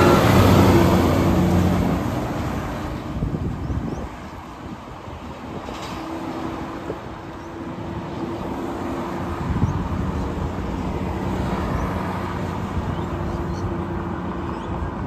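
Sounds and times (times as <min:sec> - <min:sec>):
vehicle passing on highway: 0:00.0 - 0:15.0.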